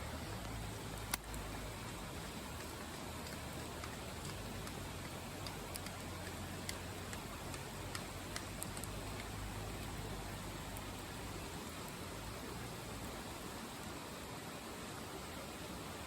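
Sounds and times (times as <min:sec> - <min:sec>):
wood fire crackling: 0:00.0 - 0:13.9
river rushing: 0:00.0 - 0:16.0.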